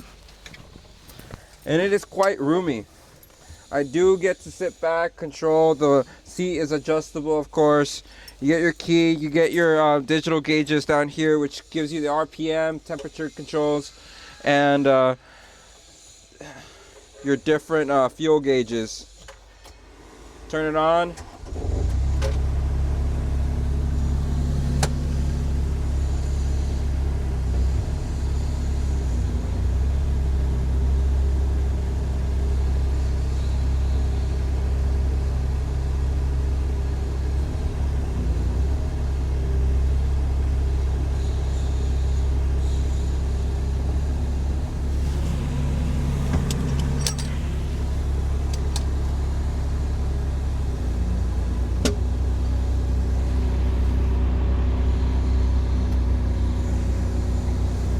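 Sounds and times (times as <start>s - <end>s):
diesel engine idling: 0.0s - 13.4s, 19.4s - 57.9s.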